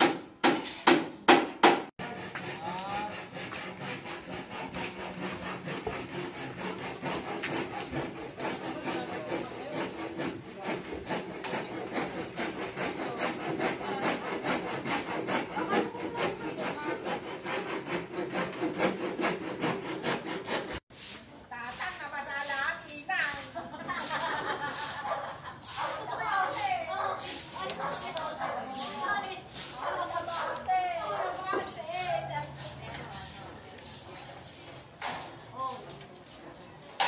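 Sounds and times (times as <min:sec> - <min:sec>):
hand saw cutting wood: 0:00.0 - 0:21.2, 0:23.3 - 0:36.0.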